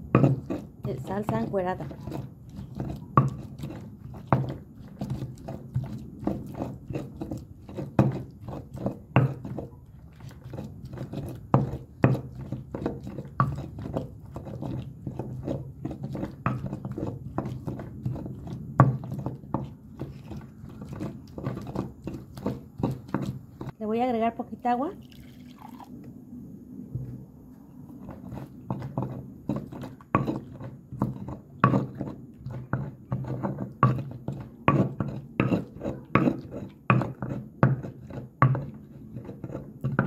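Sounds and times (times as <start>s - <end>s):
stone pestle knocking on stone: 0.1s - 9.7s, 11.0s - 23.4s, 28.8s - 40.0s.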